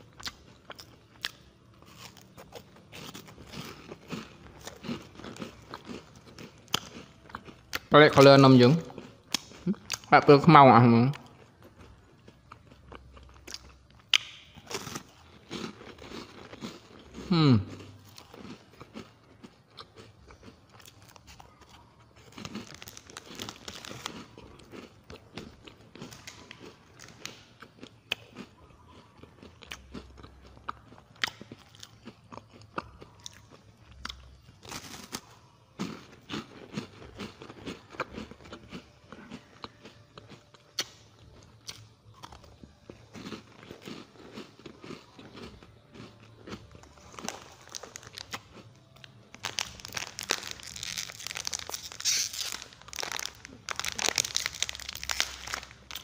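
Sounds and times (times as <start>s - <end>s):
person crunching wafer bars: 0.0s - 56.0s.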